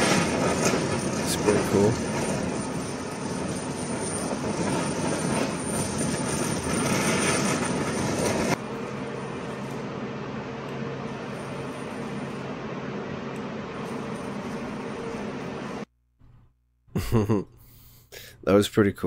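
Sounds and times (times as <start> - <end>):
flame rushing: 0.0 - 15.9
steady hum: 0.0 - 18.7.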